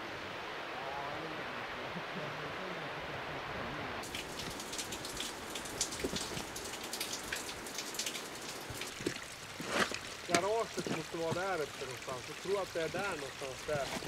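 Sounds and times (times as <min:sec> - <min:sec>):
light rain falling: 0:00.0 - 0:14.0.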